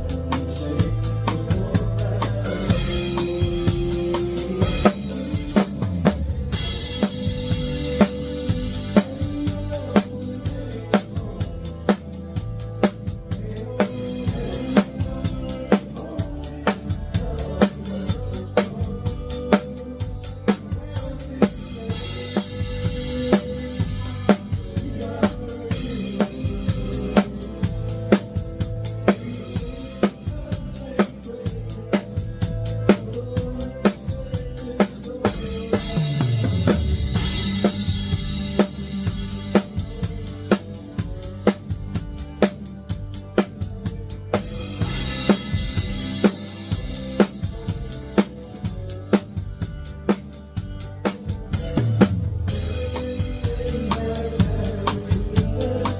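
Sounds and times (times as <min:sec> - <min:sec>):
band playing: 0:00.0 - 0:55.9.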